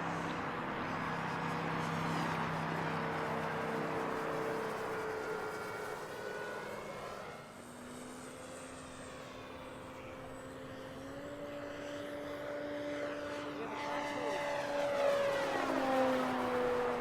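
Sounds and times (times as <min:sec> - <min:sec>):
model plane motor whine: 0:00.0 - 0:17.0.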